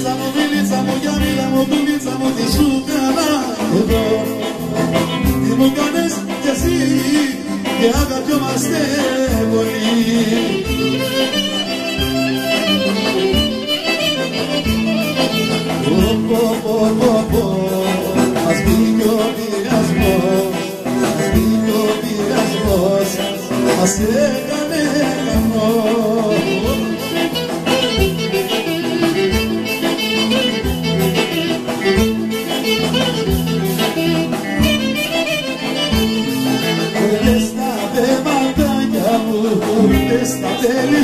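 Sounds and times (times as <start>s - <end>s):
clarinet: 0.0s - 41.0s
electric guitar: 0.0s - 41.0s
keyboard: 0.0s - 41.0s
steady drum beat: 0.0s - 41.0s.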